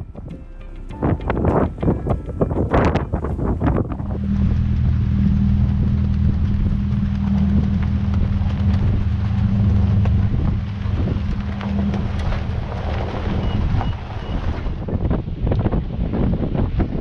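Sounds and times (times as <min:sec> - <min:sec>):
car engine humming steadily: 0:00.0 - 0:15.4
low rumble: 0:00.0 - 0:17.0.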